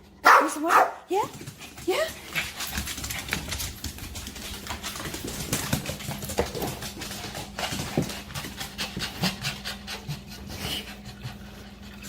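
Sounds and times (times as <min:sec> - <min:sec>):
dog panting: 0:01.6 - 0:12.0.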